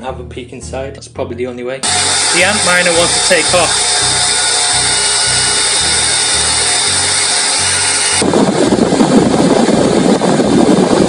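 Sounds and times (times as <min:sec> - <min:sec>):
cooling fans rushing air: 0:01.8 - 0:11.0.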